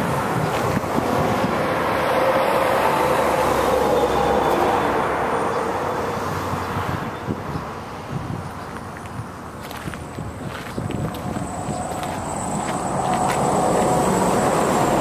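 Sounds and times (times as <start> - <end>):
passing vehicle rumble: 0.0 - 15.0.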